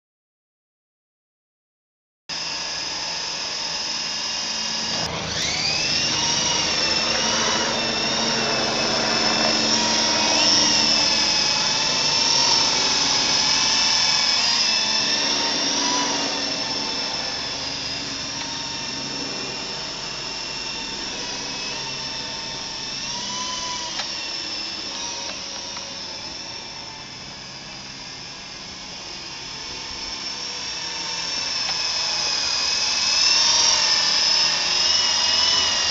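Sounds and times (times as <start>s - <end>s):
remote-control helicopter whine: 2.3s - 35.9s.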